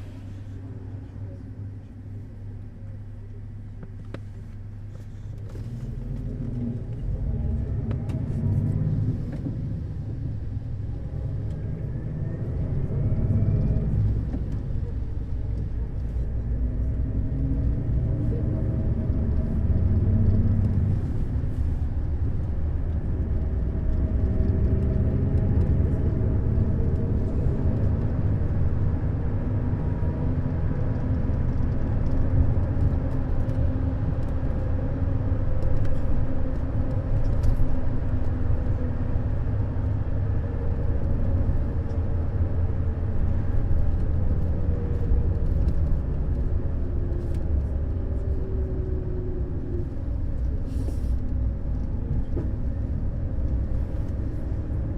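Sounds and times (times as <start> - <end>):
coach engine drone: 0.0 - 54.9
low road rumble: 0.0 - 54.9.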